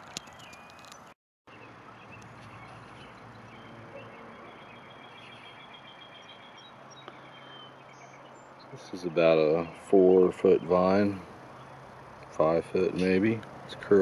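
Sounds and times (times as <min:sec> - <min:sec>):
faint distant engine hum: 0:01.5 - 0:14.0.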